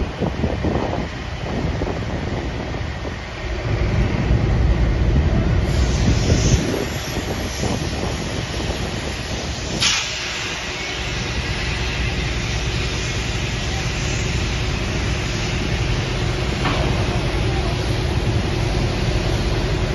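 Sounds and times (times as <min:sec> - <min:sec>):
wind hiss on microphone: 0:00.0 - 0:19.9.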